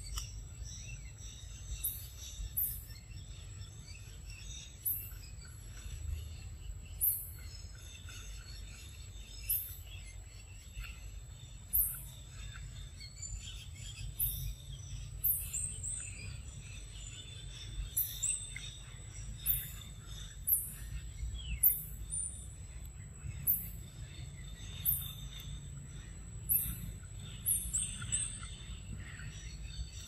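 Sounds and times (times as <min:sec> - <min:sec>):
bird chirps: 0:00.0 - 0:30.0.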